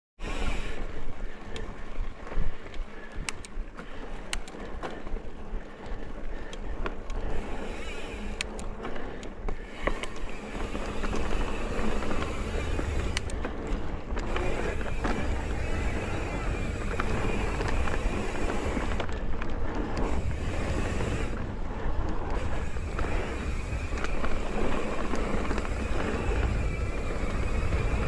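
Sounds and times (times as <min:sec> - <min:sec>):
bike clicking and rattling: 0:00.2 - 0:28.0
bike tyres rolling on dirt: 0:00.2 - 0:28.0.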